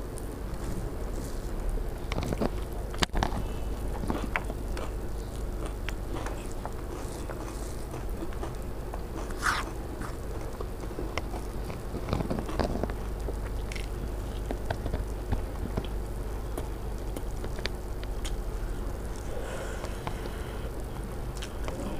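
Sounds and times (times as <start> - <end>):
low hum: 0.0 - 21.9
chewing crunchy food: 0.1 - 21.9.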